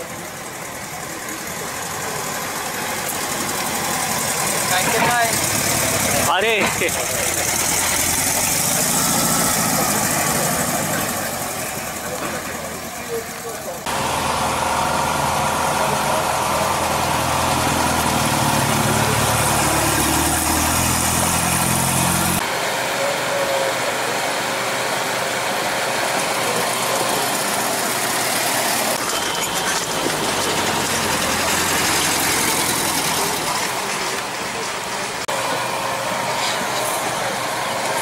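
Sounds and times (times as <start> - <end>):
car engine running: 0.0 - 38.0.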